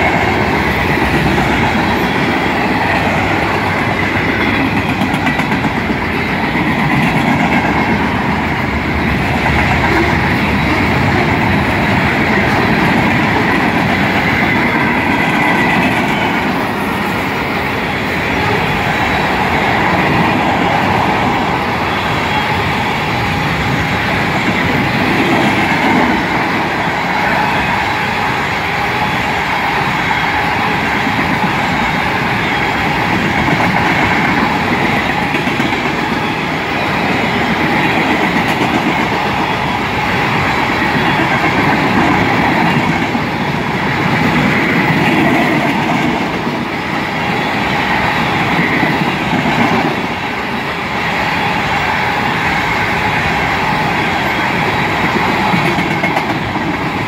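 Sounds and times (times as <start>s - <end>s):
freight train wheels clattering on rails: 0.0s - 57.0s.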